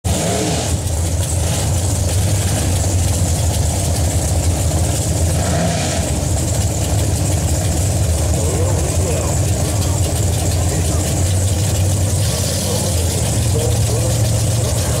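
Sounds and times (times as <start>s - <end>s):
race car engines idling: 0.0s - 15.0s.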